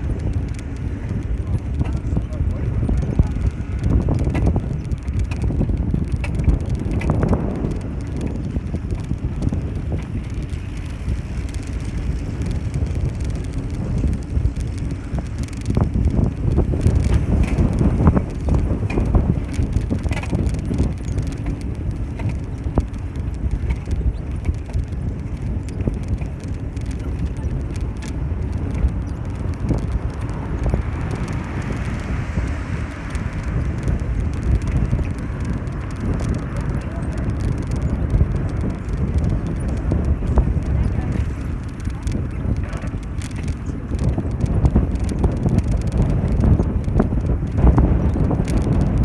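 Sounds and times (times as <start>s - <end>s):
bicycle tyre rumble on road: 0.0s - 49.0s
light clicks and rattles: 0.0s - 49.0s
wind buffeting on microphone: 0.0s - 49.0s.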